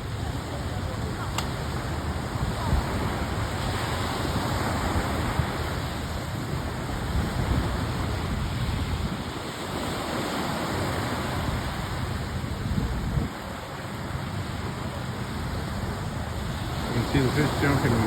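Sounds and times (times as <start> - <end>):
waves on shore: 0.0 - 18.0
wind buffeting microphone: 0.0 - 18.0.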